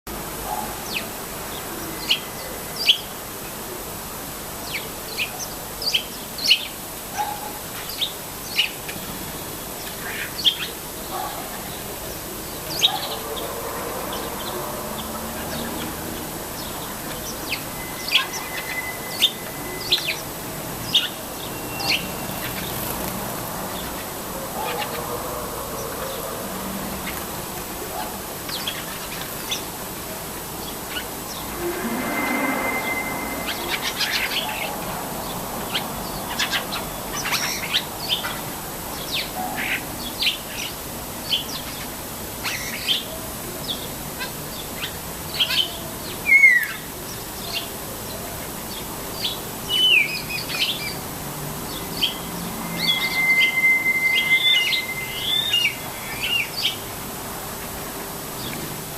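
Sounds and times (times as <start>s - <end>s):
sparrows chirping: 4.6s - 29.8s, 30.5s - 57.0s.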